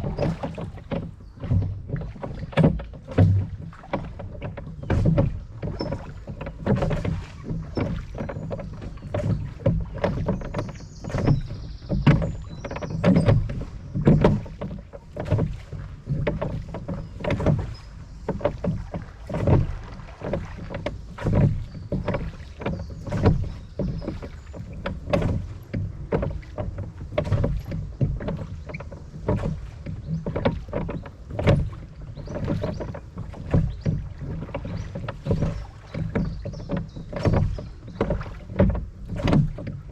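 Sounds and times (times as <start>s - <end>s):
oars splashing in water: 0.0s - 39.9s
wind rumble on microphone: 0.0s - 39.9s.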